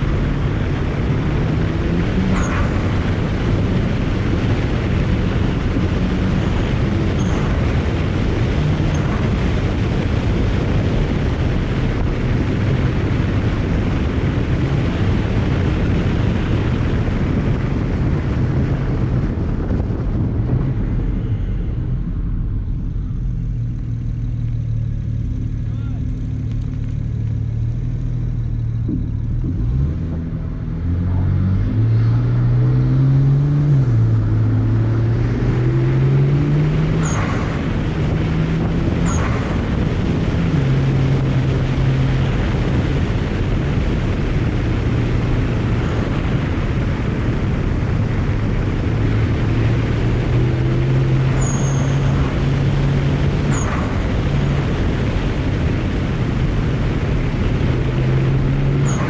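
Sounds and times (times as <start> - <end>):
car engine revving through gears: 0.0 - 19.2, 23.1 - 59.0.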